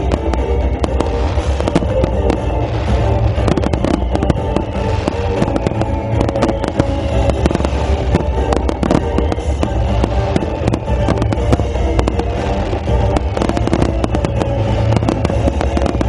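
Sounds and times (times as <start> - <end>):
fireworks bangs and crackles: 0.0 - 16.0
loud music: 0.0 - 16.0.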